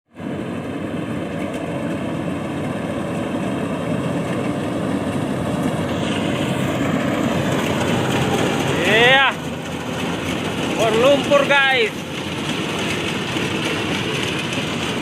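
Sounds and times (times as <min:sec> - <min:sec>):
combine harvester engine running: 0:00.1 - 0:15.0.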